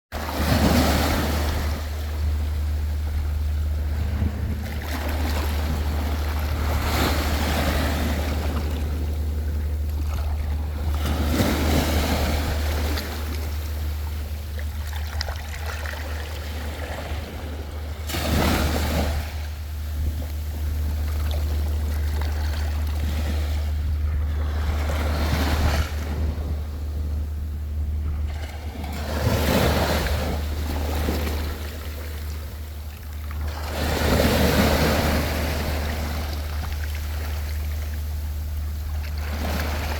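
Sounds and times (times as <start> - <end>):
low rumble: 0.1 - 39.9
sea waves breaking: 0.1 - 39.9.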